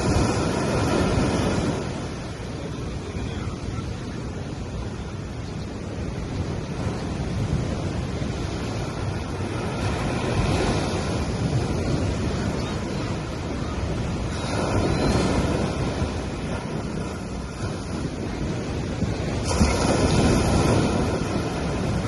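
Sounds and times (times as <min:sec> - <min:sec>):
waves washing up on beach: 0:00.0 - 0:22.0.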